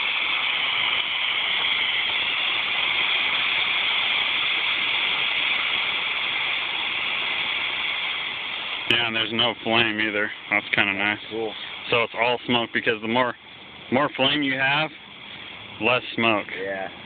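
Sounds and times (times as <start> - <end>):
smoke bomb hissing: 0.0 - 17.0.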